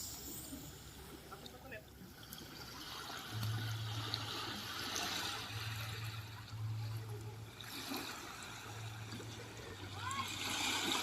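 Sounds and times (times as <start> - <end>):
low steady hum: 0.0 - 11.0
small waves washing on beach: 0.0 - 11.0.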